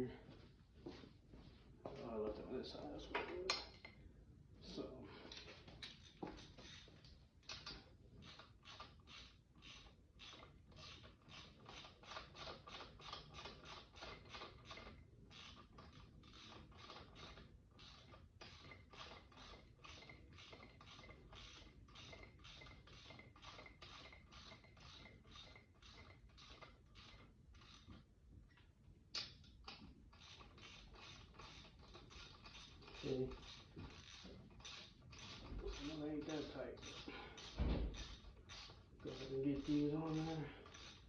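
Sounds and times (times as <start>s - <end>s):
hand ratchet clicking: 5.3s - 28.1s, 29.2s - 41.0s.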